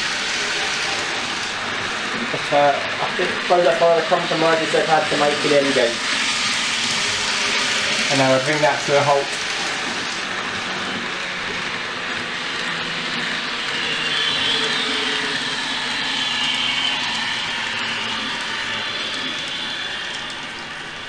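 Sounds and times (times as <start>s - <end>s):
model train running sounds: 0.0s - 21.0s
model train wheels and motor: 0.0s - 21.0s.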